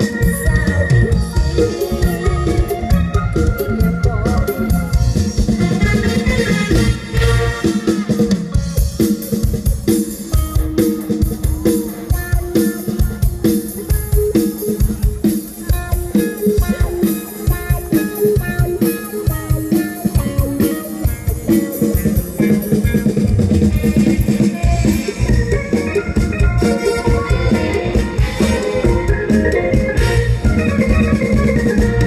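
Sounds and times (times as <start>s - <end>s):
drum kit beat: 0.0s - 32.0s
live band music: 0.0s - 32.0s.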